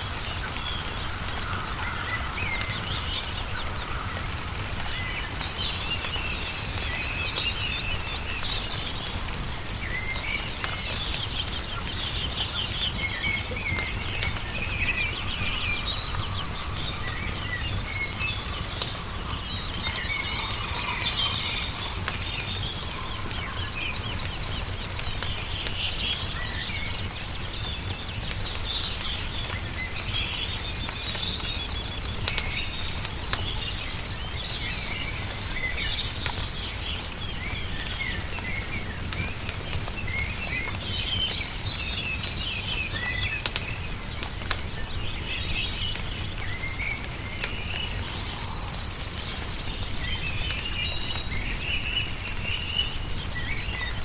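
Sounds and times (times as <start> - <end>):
small birds chirping: 0.0 - 54.0
wood fire crackling: 0.0 - 54.0.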